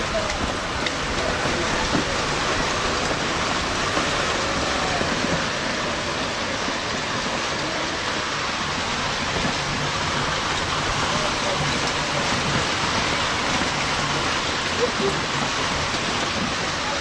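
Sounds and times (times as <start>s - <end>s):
heavy rain and hail pelting: 0.0s - 17.0s.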